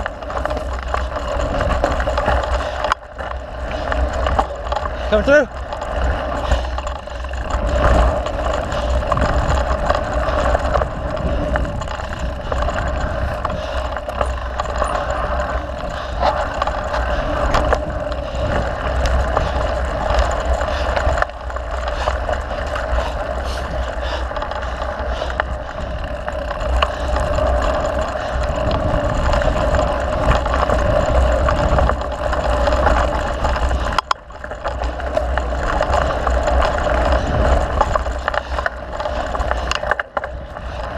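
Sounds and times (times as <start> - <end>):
bike knocks and rattles: 0.0 - 40.9
wind and tyre noise: 0.0 - 40.9.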